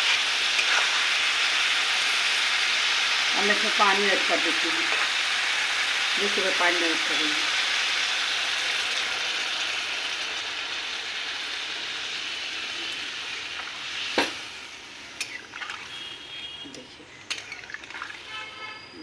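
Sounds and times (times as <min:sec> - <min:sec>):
water sizzling in hot oil: 0:00.0 - 0:16.4, 0:17.2 - 0:18.4.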